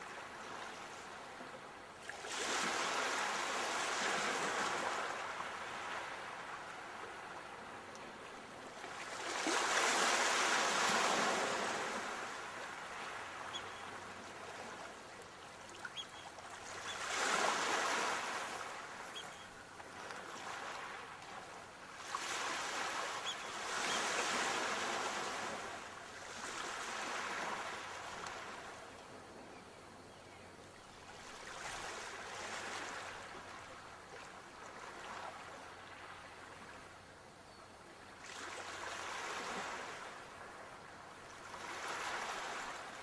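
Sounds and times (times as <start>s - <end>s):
sea waves breaking on shore: 2.0s - 29.0s, 31.0s - 36.9s, 38.2s - 43.0s.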